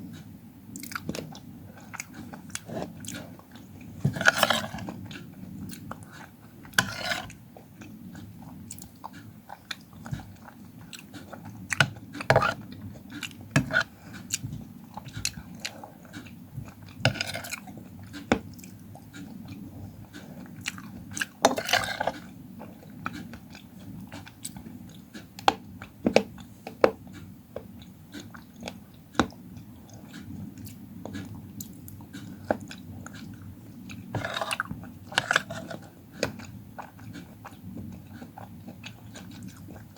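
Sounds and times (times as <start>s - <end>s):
crunchy fruit chewing: 0.8s - 39.9s.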